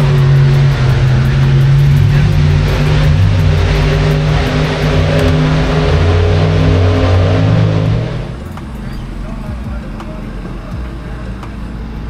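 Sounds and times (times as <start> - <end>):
racing boat engine revving: 0.0 - 12.0.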